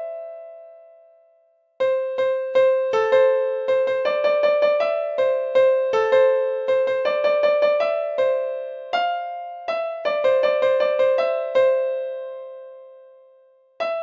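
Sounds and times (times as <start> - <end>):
electric piano melody: 1.8 - 14.0.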